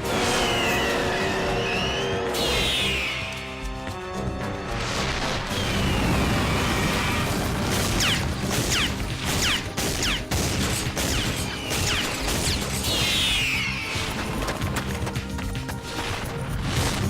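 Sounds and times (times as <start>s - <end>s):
dramatic score: 0.0s - 17.0s.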